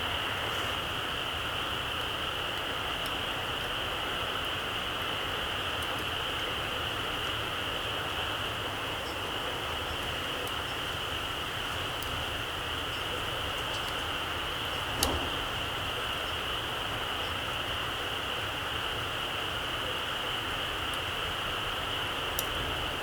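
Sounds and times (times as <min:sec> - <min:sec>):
campfire crackling: 0:00.0 - 0:23.0
campfire hiss: 0:00.0 - 0:23.0
fire popping: 0:00.0 - 0:23.0.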